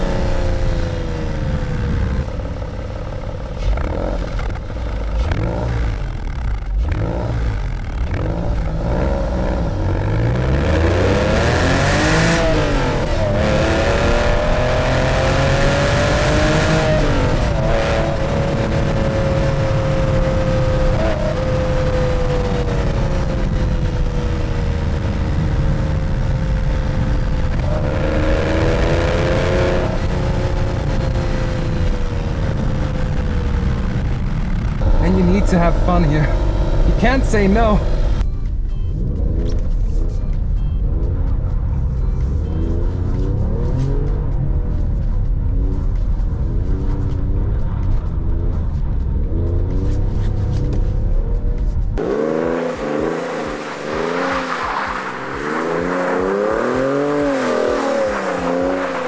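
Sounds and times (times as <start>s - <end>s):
car engine and exhaust from inside: 0.0s - 59.0s.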